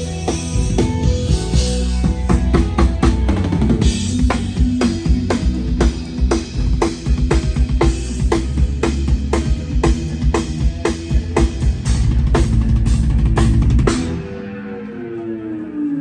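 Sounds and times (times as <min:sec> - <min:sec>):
drum kit groove: 0:00.0 - 0:14.4.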